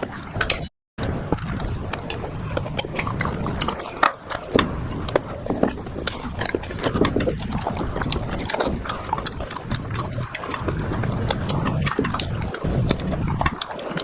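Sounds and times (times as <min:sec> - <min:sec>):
close chewing: 0:00.0 - 0:14.0
low rumble: 0:00.4 - 0:13.6
mouth clicks: 0:01.9 - 0:14.0.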